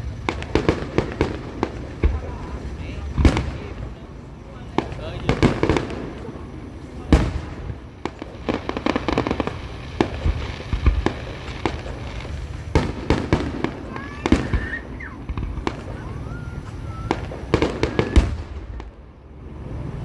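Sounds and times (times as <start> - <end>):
fireworks bangs: 0.0 - 20.0
fireworks crackling bursts: 0.0 - 20.0.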